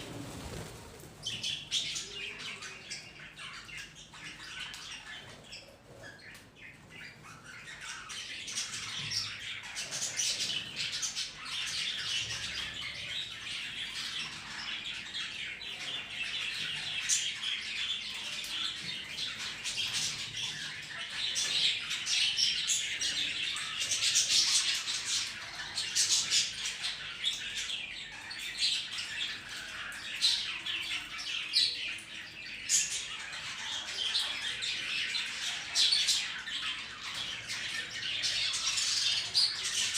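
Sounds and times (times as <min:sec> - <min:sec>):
budgies and parrot chattering: 0:00.0 - 0:39.9.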